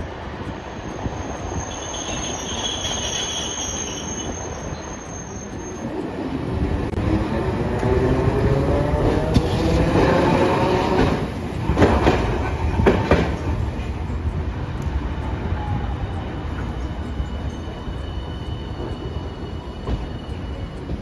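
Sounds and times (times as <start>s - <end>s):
streetcar whine: 0.0s - 21.0s
wheels clacking over rail joints: 0.4s - 21.0s.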